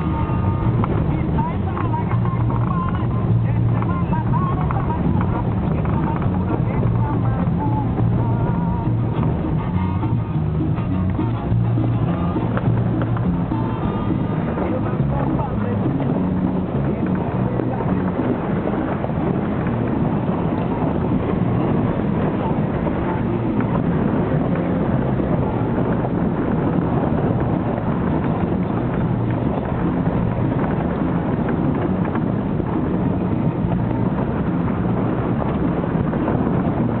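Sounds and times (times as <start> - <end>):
vehicle driving on dirt road: 0.0 - 37.0.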